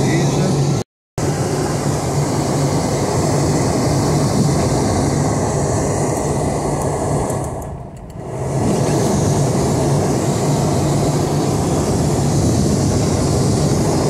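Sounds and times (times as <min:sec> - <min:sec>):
car engine and tyre drone: 0:00.0 - 0:14.0.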